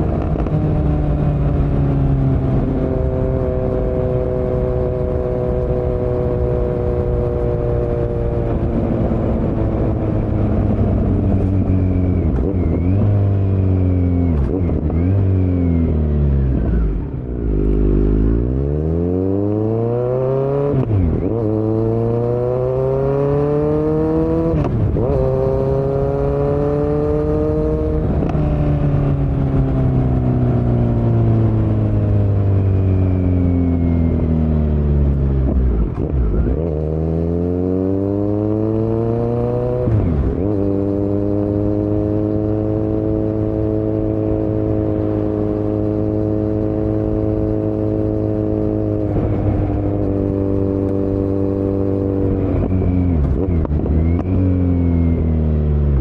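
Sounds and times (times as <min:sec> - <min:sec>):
motorcycle engine on the move: 0:00.0 - 0:56.0.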